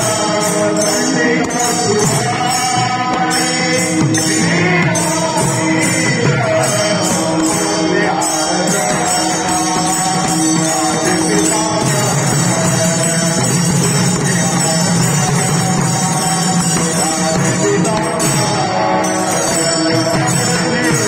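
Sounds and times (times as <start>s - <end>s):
jingling percussion: 0.0s - 21.0s.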